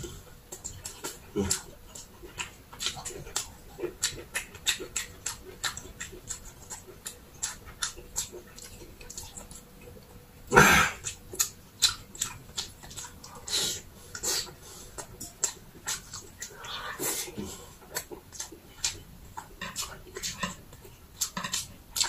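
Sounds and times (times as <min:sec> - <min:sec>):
chewing and lip-smacking: 0:00.0 - 0:22.0.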